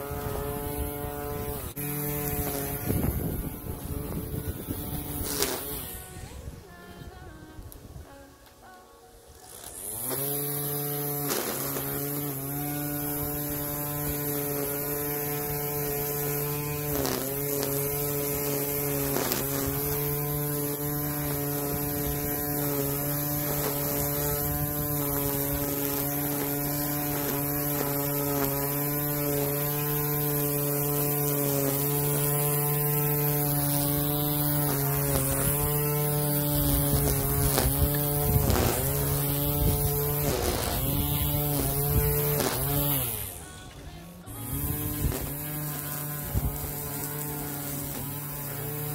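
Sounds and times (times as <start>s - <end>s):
electric string trimmer cutting grass: 0.0s - 48.9s.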